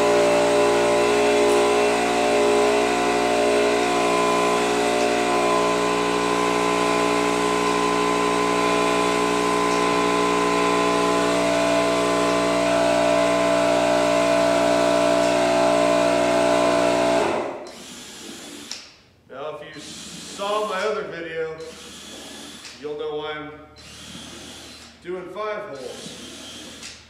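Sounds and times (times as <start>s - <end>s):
electric drill motor running: 0.0s - 18.8s, 19.8s - 20.9s, 21.6s - 22.8s, 23.8s - 25.0s, 25.8s - 27.0s.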